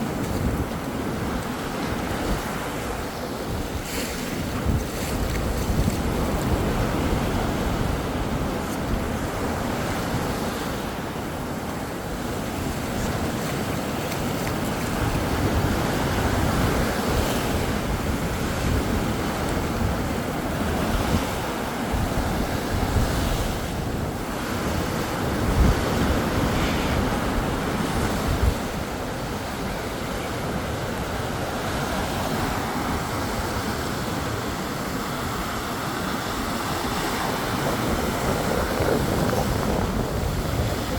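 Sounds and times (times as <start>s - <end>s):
sea surf washing onto beach: 0.0s - 40.9s
wind buffeting microphone: 0.0s - 40.9s.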